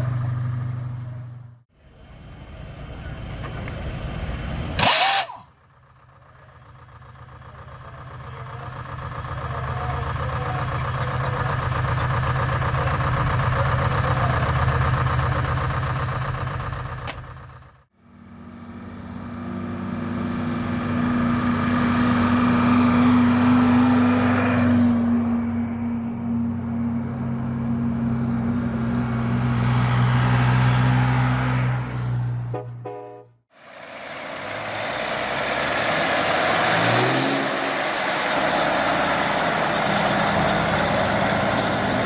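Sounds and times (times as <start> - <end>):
truck engine running: 0.0 - 31.6, 32.3 - 42.0
truck engine humming: 0.0 - 42.0.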